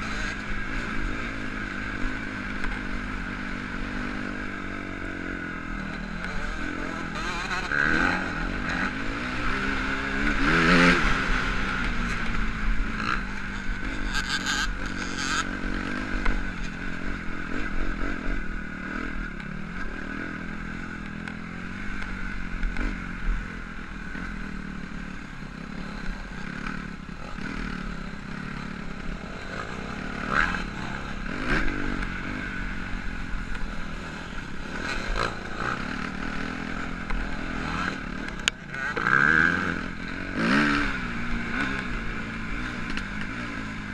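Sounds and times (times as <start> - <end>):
dirt bike engines revving: 0.0 - 43.9.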